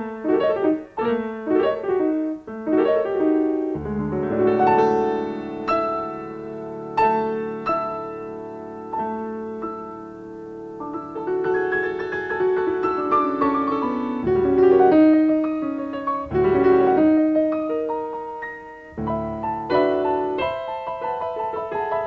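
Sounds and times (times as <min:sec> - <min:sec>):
solo piano classical music: 0:00.0 - 0:22.0.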